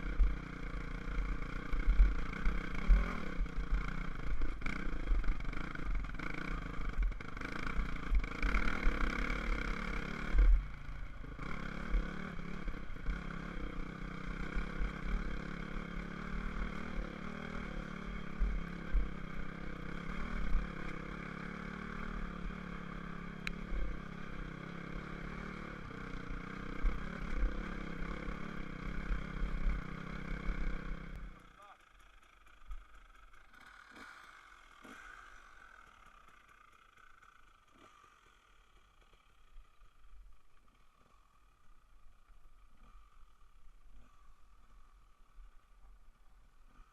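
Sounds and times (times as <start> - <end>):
dirt bike engine: 0.0 - 46.9.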